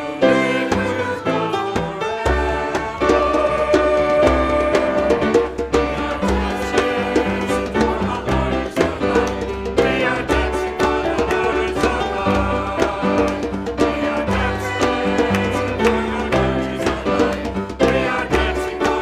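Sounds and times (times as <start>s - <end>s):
lively upbeat music: 0.0s - 19.0s.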